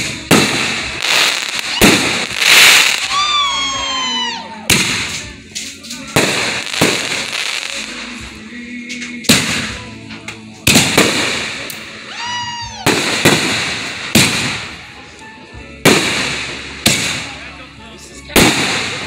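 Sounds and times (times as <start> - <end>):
fireworks bangs and crackle: 0.0 - 15.0, 15.8 - 17.6, 18.3 - 19.0.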